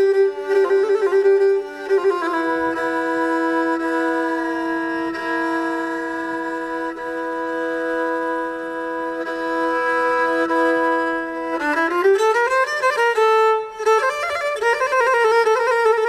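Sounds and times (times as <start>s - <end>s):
bowed lyra long notes: 0.0s - 16.0s.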